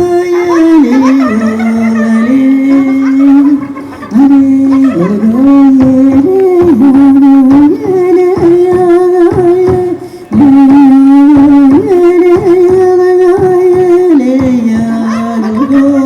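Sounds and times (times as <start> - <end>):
folk melody of held notes: 0.0 - 16.0.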